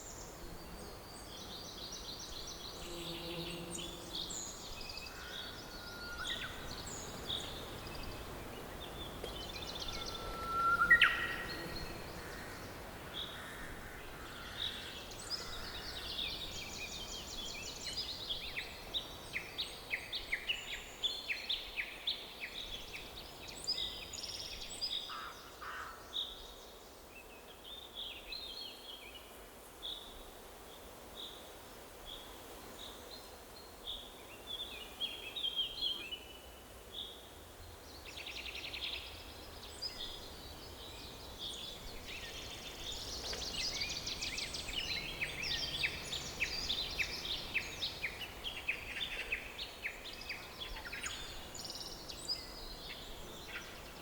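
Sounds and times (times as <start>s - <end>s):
songbirds chirping and trilling: 0.0s - 29.2s, 32.9s - 54.0s
faint steady hiss: 0.0s - 54.0s.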